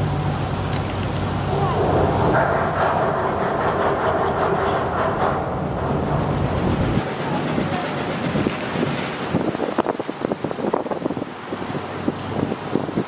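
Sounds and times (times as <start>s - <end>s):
churning water: 0.0s - 13.0s
ship engine rumble: 0.0s - 13.0s.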